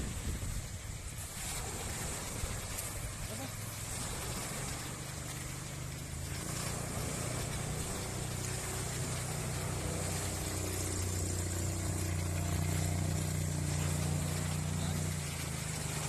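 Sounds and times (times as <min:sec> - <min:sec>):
jet ski engine drone: 0:00.0 - 0:16.0
water noise: 0:00.0 - 0:16.0
wind: 0:00.0 - 0:16.0.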